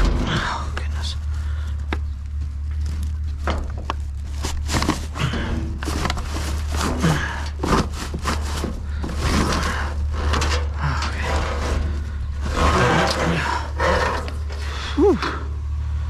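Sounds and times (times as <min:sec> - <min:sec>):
junk rummaged in a dumpster: 0:00.0 - 0:16.0
low hum: 0:00.0 - 0:16.0.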